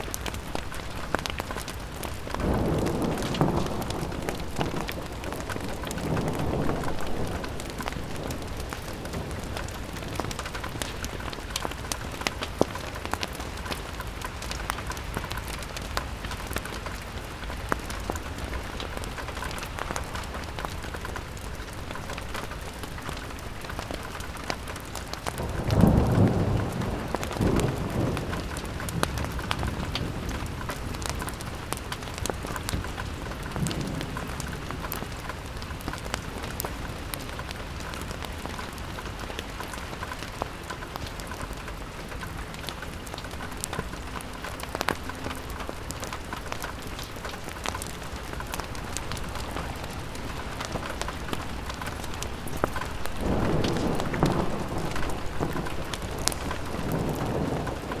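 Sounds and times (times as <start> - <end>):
rain on window glass: 0.0 - 58.0.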